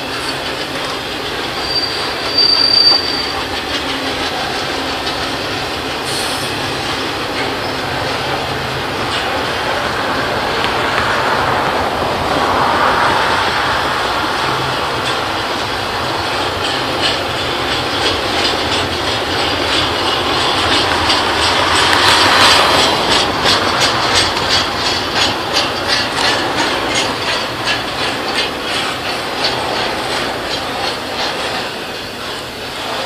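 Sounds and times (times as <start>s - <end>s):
train wheels clacking over rail: 0.0s - 33.0s.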